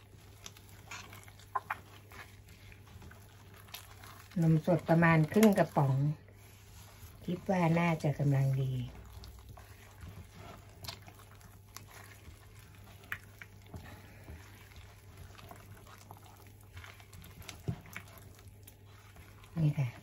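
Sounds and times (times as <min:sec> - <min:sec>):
dough squelching: 0:00.0 - 0:20.0.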